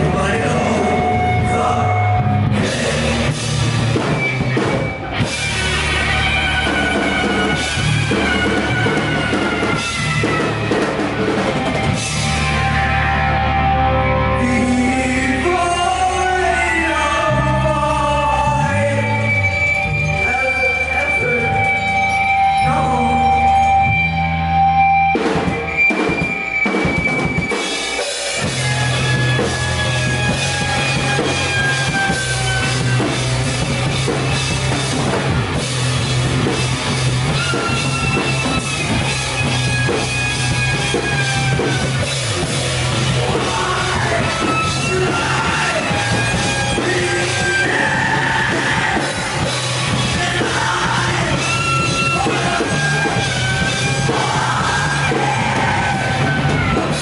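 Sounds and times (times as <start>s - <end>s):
bending electric guitar notes: 0.0s - 57.0s
live rock band playing: 0.0s - 57.0s.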